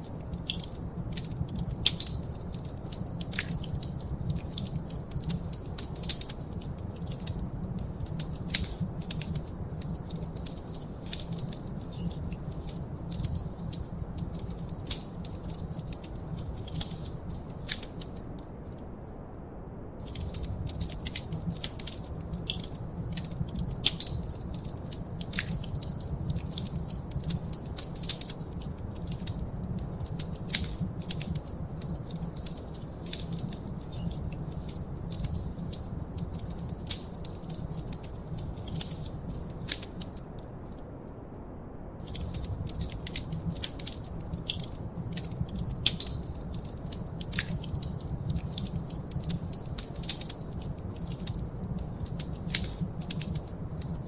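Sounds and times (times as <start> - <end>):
wood fire crackling: 0.0 - 19.0, 20.0 - 41.3, 42.0 - 54.0.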